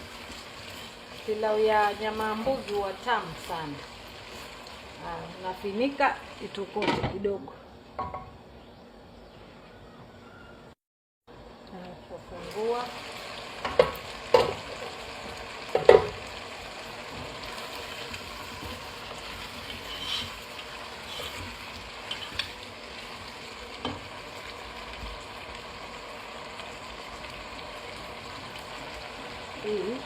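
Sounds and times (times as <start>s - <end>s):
meat sizzling in a pot: 0.0s - 7.1s, 11.7s - 30.0s.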